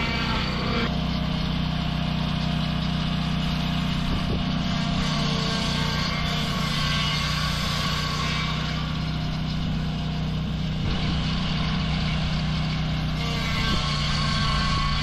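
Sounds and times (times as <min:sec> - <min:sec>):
blade sawing log: 0:00.0 - 0:15.0
sawmill engine running: 0:00.0 - 0:15.0.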